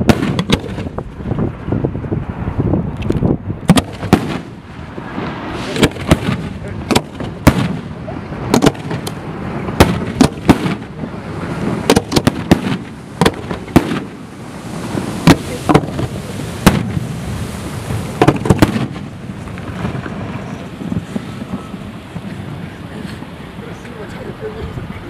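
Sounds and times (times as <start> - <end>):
fireworks bangs: 0.0 - 2.6, 3.6 - 24.9.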